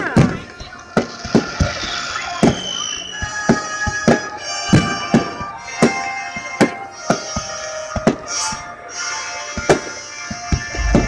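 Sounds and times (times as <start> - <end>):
fireworks bursting: 0.0 - 11.0
music in background: 0.0 - 11.0.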